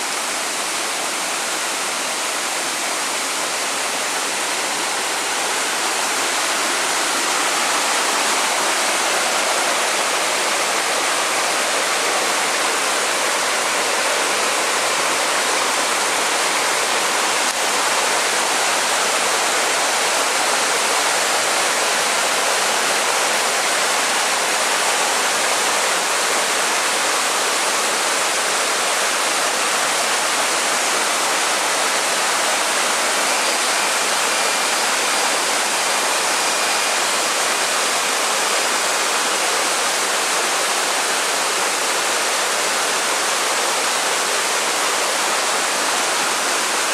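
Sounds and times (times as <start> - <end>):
waterfall crashing onto rocks: 0.0 - 46.9.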